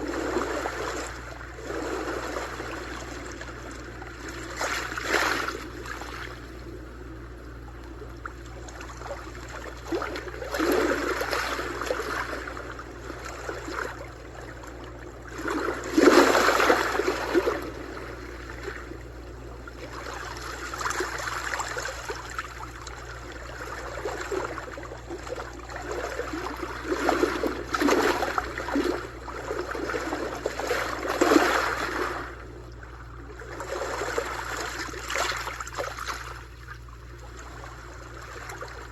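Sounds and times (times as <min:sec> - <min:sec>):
sea waves washing in: 0:00.0 - 0:36.4
steady low rumble: 0:00.0 - 0:38.9.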